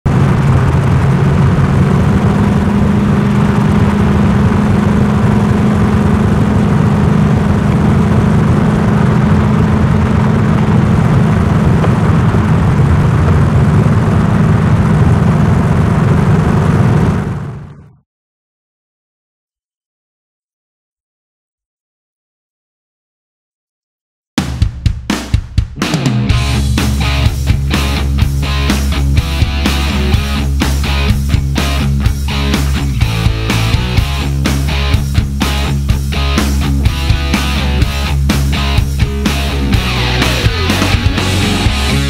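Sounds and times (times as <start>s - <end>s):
car engine droning at cruise: 0.0s - 18.0s, 25.9s - 42.0s.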